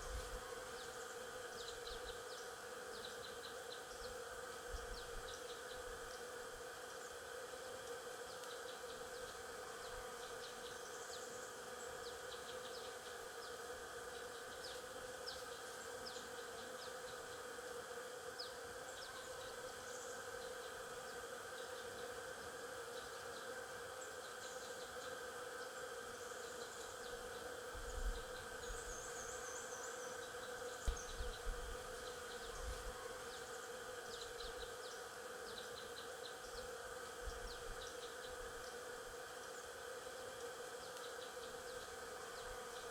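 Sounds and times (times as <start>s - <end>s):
bees buzzing: 0.0s - 42.9s.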